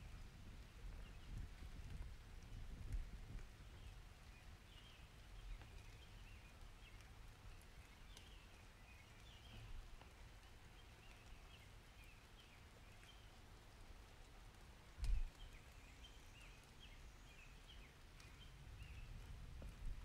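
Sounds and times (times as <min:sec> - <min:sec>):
rain drips: 0:00.0 - 0:20.0.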